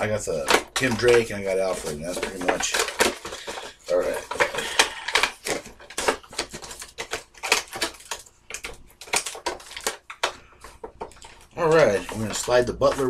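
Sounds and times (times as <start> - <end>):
cardboard packaging crinkling: 0.0 - 13.0.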